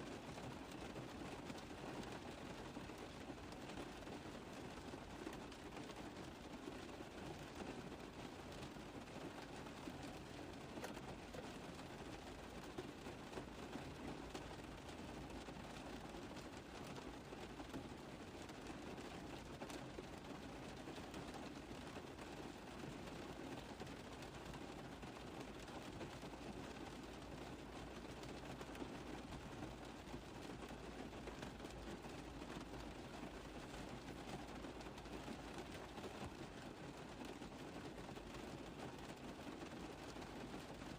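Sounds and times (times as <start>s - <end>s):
rain falling on car roof: 0.0s - 40.9s.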